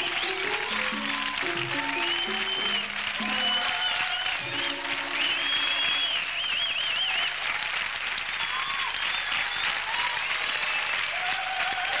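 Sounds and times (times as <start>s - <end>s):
studio audience applauding: 0.0s - 12.0s.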